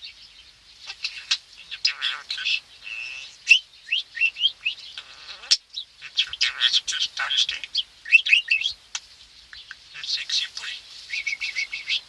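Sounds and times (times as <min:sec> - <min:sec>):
budgerigar chirping: 0:00.9 - 0:09.0, 0:09.6 - 0:12.0.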